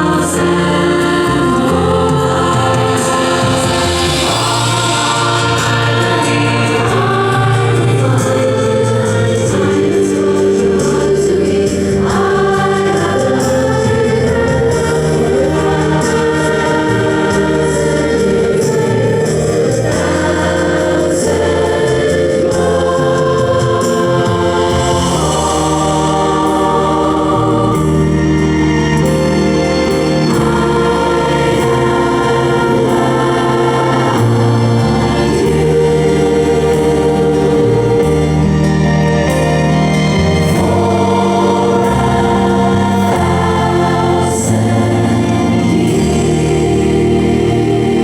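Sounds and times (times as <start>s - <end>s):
choir singing held chords: 0.0s - 48.0s.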